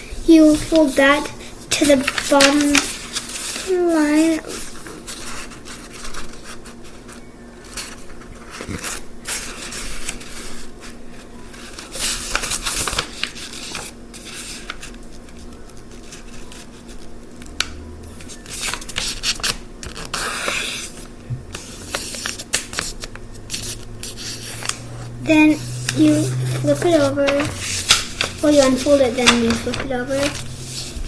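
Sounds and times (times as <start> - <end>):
paper rustling and crinkling: 0.3 - 17.1, 18.4 - 31.0.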